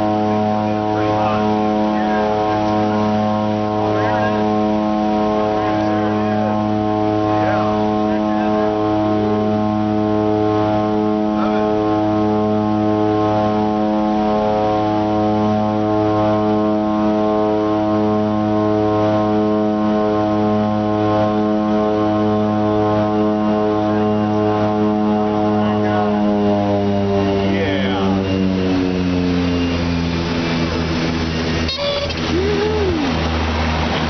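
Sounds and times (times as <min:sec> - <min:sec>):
propeller aircraft droning: 0:00.0 - 0:34.0.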